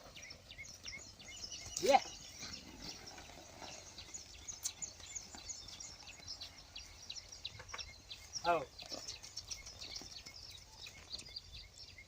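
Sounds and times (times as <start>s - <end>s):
faint outdoor background noise: 0.0s - 12.0s
small birds chirping: 0.0s - 12.0s.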